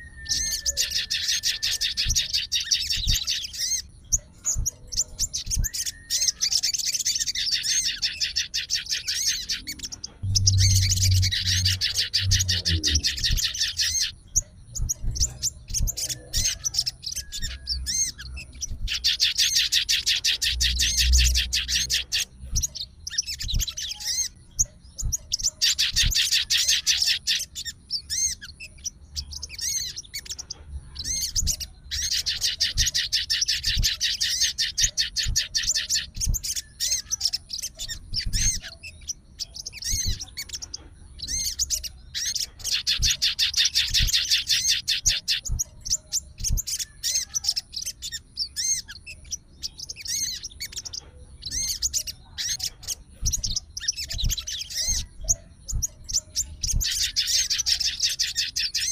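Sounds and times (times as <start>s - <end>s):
bird chirps: 0.0s - 58.9s
songbird trilling: 0.0s - 58.9s.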